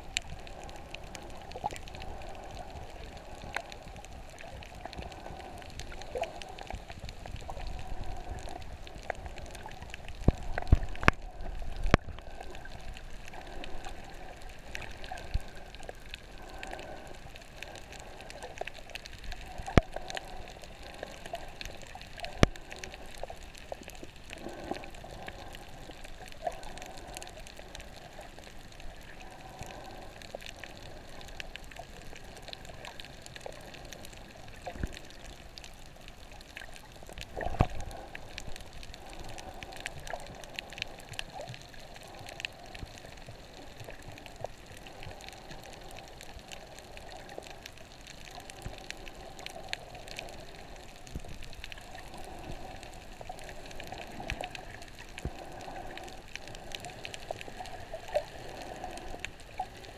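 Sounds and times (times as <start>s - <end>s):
muffled underwater water wash: 0.0s - 59.9s
sharp clicks underwater: 0.0s - 59.9s.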